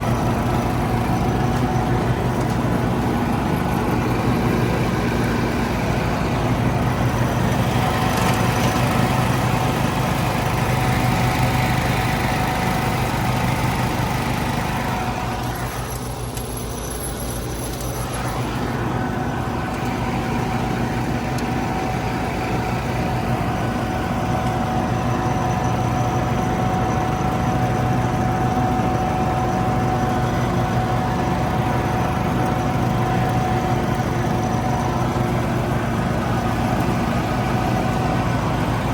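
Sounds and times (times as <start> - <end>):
garden tractor engine: 0.0 - 38.9
leaf vacuum whine: 0.0 - 38.9.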